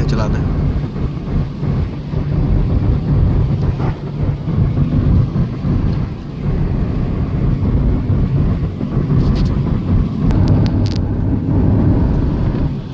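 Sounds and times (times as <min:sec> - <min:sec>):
road and engine rumble in car: 0:00.0 - 0:12.9.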